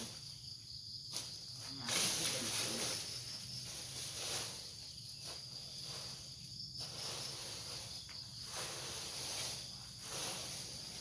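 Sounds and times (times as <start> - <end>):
insects chirring: 0.0 - 11.0
hoe scraping through leaves: 1.1 - 11.0.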